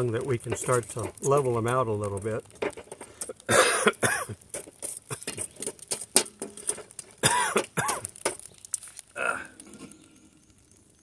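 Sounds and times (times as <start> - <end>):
charcoal clinking and scraping: 0.0 - 10.8.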